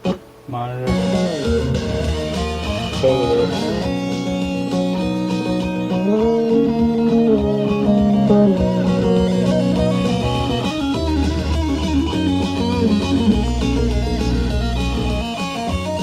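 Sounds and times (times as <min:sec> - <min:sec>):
lead guitar with held notes: 0:00.0 - 0:16.0
bass line: 0:00.5 - 0:16.0.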